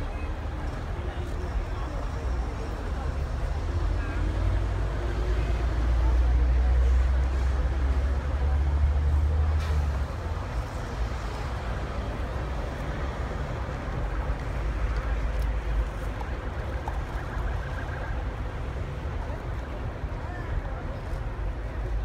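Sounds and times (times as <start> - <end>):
idling buses and road traffic: 0.0 - 22.0
outdoor crowd hubbub: 0.0 - 22.0.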